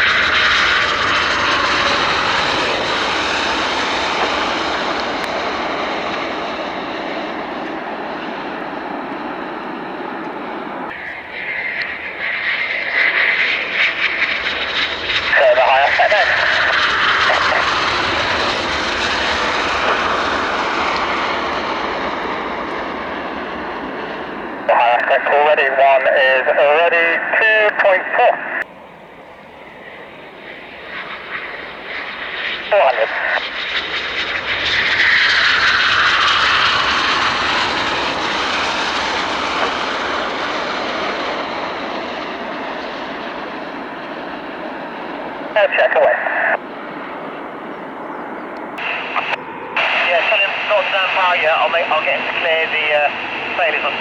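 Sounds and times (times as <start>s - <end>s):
jet aircraft rushing: 0.0s - 54.0s.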